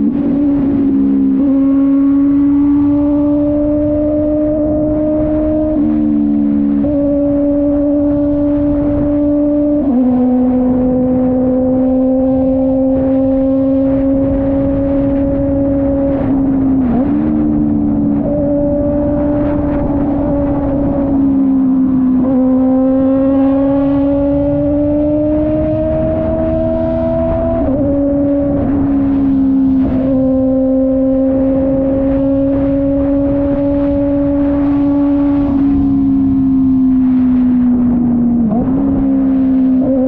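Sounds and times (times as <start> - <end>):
motorcycle engine shifting gears: 0.0 - 40.0.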